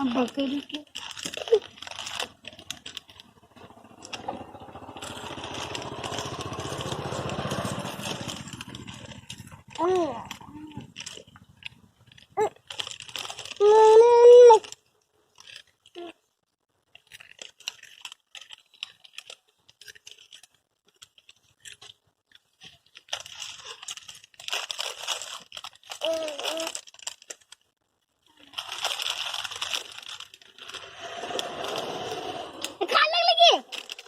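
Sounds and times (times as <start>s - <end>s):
biscuit packet crinkling: 0.0s - 34.0s
biscuits crunching: 0.0s - 34.0s.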